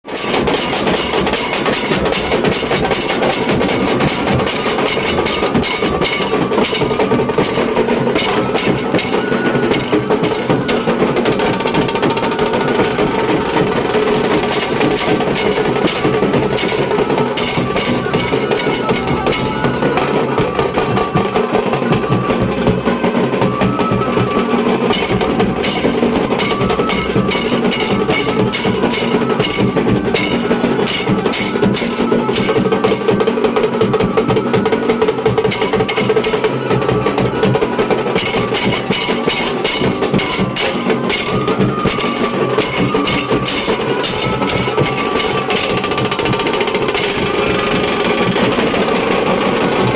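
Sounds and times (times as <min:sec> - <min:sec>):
drum ensemble playing fast rhythm: 0:00.0 - 0:49.9.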